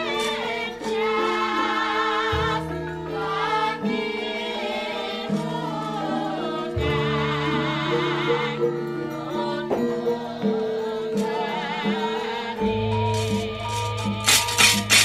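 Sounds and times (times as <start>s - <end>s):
gamelan playing: 0.0s - 15.0s
singing voices: 0.0s - 15.0s.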